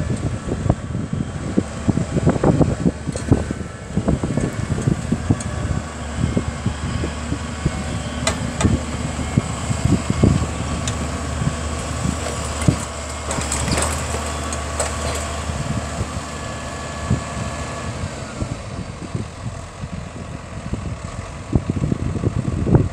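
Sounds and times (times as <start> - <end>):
tractor diesel engine running: 0.0 - 22.9
wind buffeting microphone: 0.0 - 22.9.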